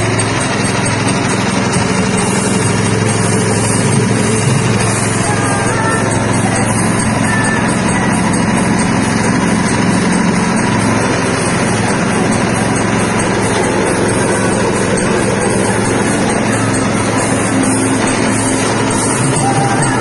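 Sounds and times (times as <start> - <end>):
machine motor hum: 0.0 - 20.0.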